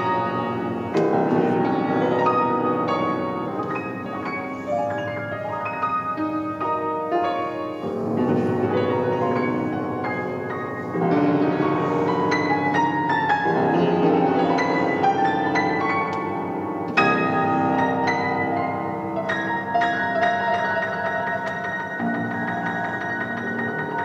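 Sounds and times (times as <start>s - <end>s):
grand piano playing: 0.0s - 24.0s.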